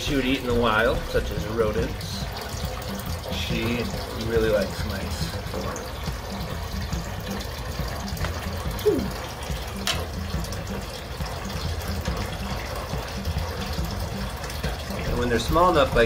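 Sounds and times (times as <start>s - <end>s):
aquarium water trickling: 0.0s - 16.0s.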